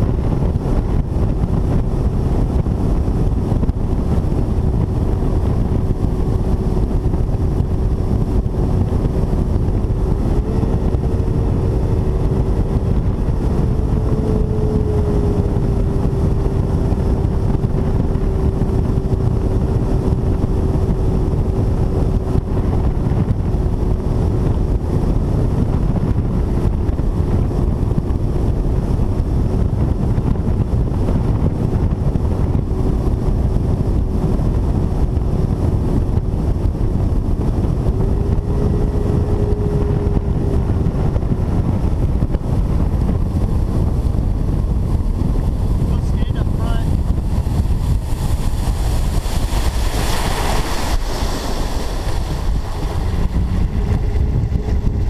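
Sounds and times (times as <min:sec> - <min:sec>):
outboard motor running: 0:00.0 - 0:55.0
wind rumble on microphone: 0:00.0 - 0:55.0.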